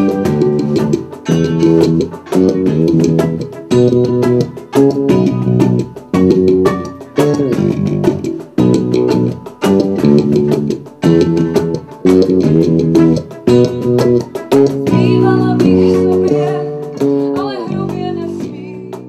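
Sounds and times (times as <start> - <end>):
electric bass guitar plucked: 0.0 - 19.0.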